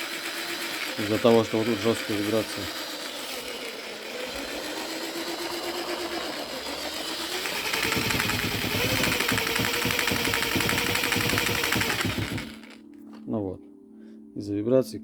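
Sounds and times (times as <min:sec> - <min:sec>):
electric drill motor whine: 0:00.0 - 0:12.8
fast vibration rattle: 0:00.0 - 0:12.8.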